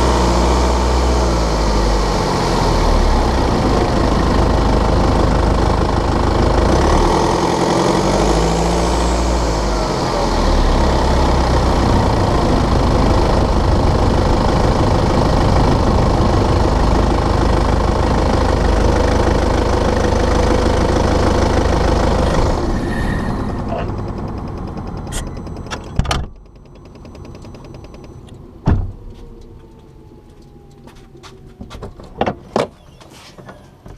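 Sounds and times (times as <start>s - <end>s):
diesel engine running with rattling: 0.0s - 33.9s.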